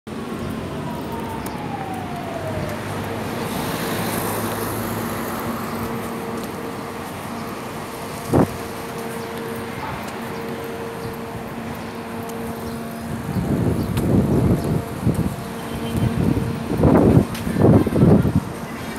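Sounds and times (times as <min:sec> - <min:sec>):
street traffic hum: 0:00.1 - 0:18.9.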